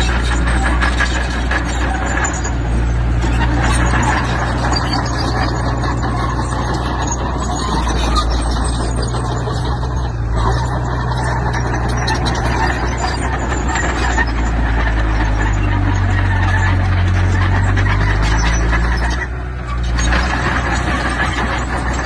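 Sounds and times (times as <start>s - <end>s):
diesel engine drone: 0.0s - 22.0s
rough mechanical noise: 0.0s - 22.0s.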